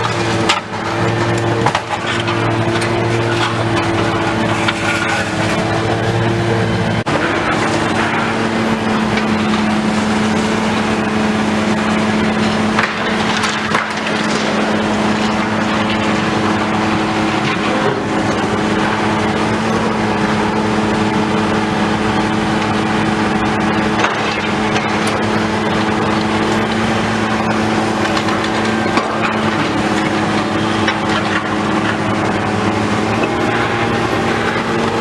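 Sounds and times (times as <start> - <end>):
debris crunching and splintering: 0.0 - 35.0
heavy demolition machinery: 0.0 - 35.0.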